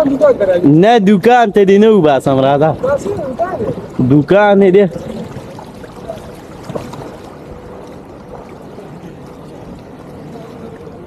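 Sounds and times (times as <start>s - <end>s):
water sloshing around wading legs: 2.0s - 11.0s.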